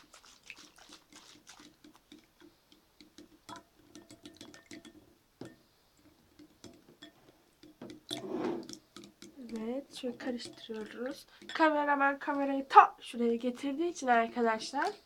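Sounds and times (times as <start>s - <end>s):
spoon stirring slime in bowl: 0.0s - 12.6s.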